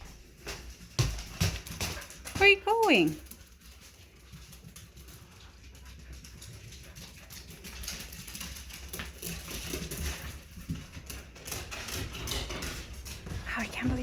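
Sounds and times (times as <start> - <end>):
dog claws clicking on hard floor: 0.0 - 14.0.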